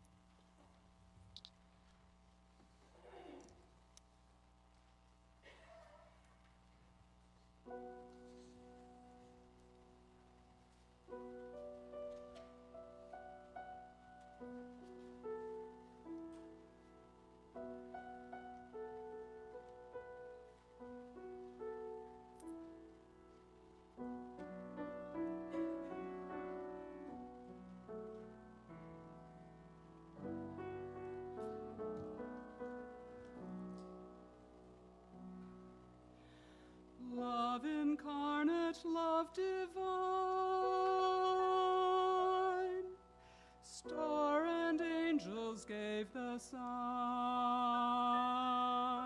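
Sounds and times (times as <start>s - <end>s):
slow gentle piano: 5.3s - 49.0s.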